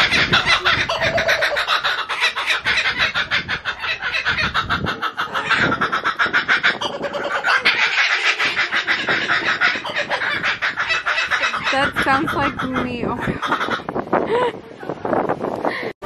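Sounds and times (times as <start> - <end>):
kookaburras cackling: 0.0 - 14.0.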